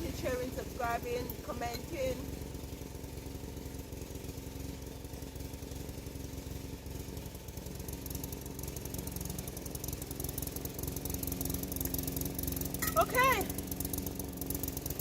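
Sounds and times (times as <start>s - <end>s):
woodchipper running: 0.0s - 15.0s.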